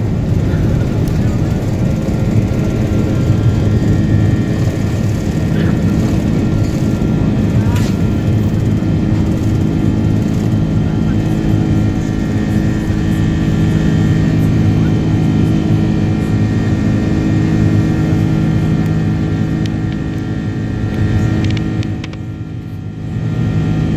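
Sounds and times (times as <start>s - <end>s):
jet engines droning in cabin: 0.0s - 23.9s
low airflow rumble: 0.0s - 23.9s.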